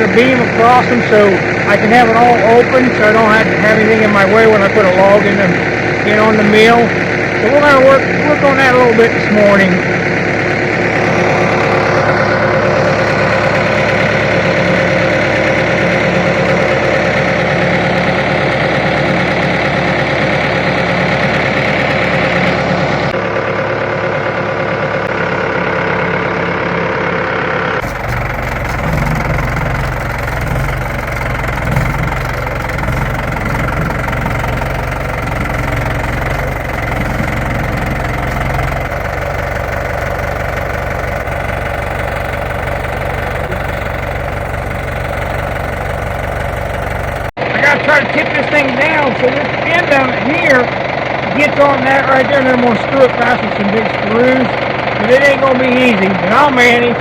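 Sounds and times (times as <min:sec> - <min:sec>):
engine idling with knocking: 0:00.0 - 0:57.0.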